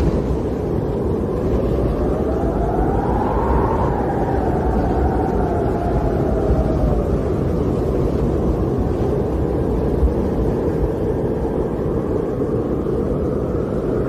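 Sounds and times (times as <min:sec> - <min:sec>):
faint wind howl: 0:00.0 - 0:14.0
snowstorm wind blowing: 0:00.0 - 0:14.0.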